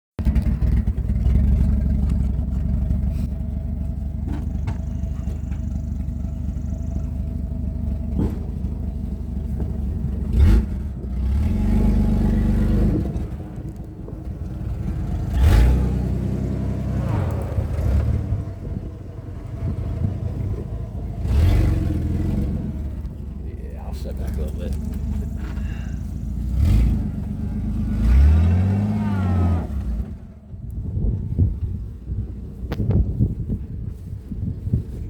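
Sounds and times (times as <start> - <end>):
engine running under load: 0.2 - 35.0.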